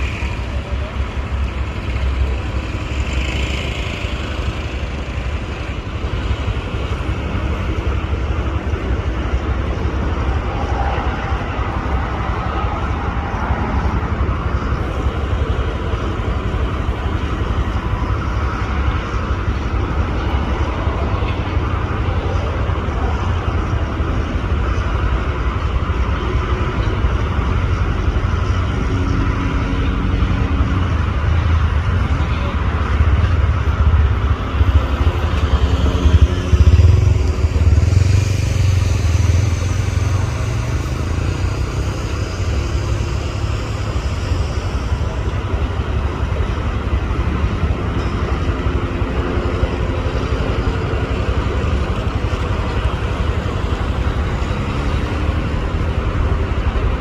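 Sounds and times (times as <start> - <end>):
vehicle and machinery rumble: 0.0 - 57.0.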